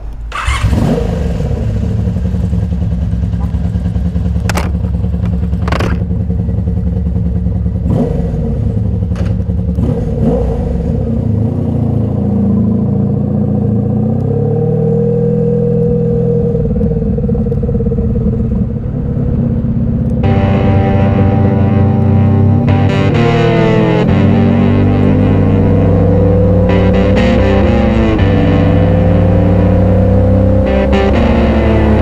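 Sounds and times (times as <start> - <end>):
motorcycle engine running: 0.4 - 13.8, 16.6 - 32.0.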